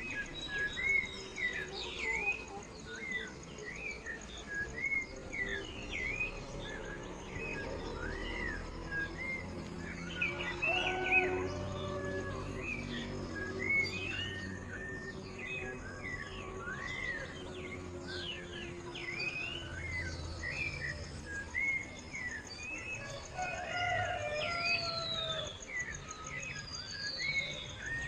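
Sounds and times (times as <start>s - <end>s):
birds chirping and whistling: 0.0s - 28.0s.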